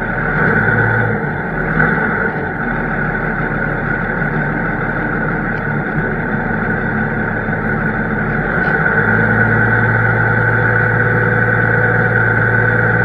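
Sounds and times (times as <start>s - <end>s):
farm machine engine running: 0.0s - 13.0s
low hum: 0.0s - 13.0s
steady high whine: 0.0s - 13.0s.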